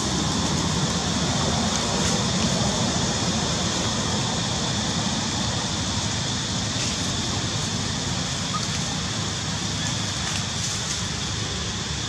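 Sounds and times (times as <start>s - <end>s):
steady rumble and hiss: 0.0s - 12.0s.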